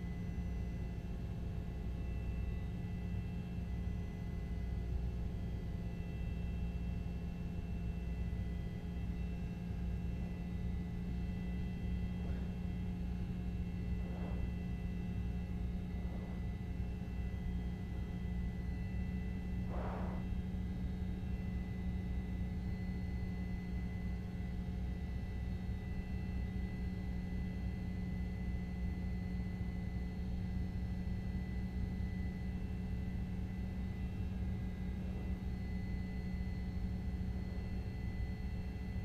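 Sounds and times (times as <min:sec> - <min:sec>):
low rumbling hum: 0:00.0 - 0:29.4, 0:30.0 - 0:39.0
faint steady tones: 0:00.0 - 0:39.0.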